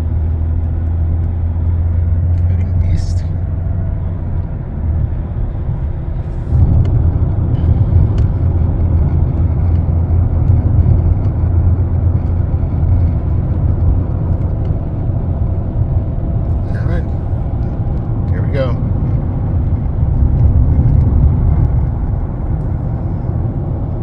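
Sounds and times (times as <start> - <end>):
car road and engine drone: 0.0 - 24.0.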